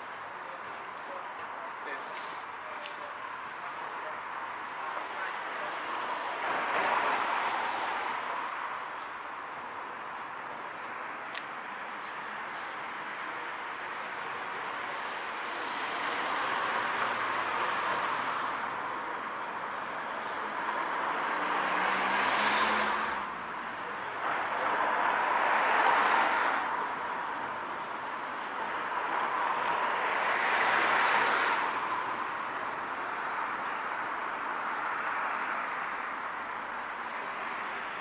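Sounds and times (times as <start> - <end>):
cars passing by: 0.0 - 38.0.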